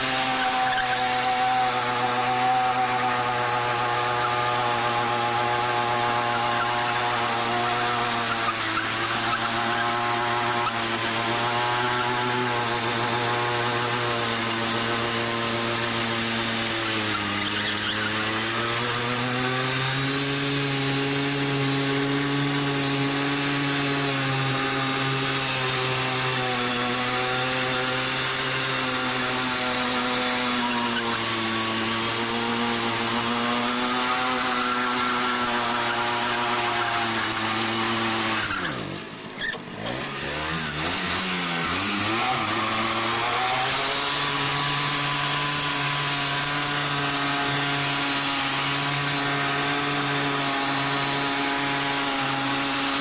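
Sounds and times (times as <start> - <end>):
two-stroke moped engine revving high: 0.0 - 53.0.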